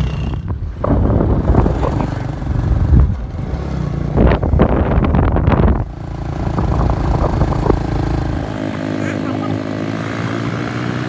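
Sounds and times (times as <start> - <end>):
gusty rush of wind noise: 0.0 - 8.9
motorcycle engine running: 0.0 - 11.0.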